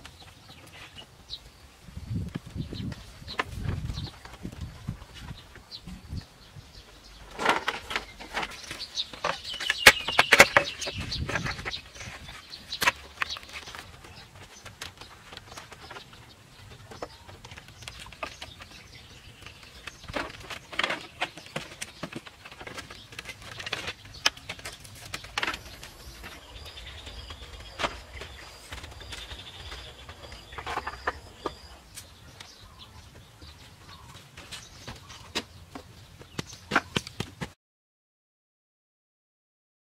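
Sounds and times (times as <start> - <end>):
birds calling: 0.0 - 37.4.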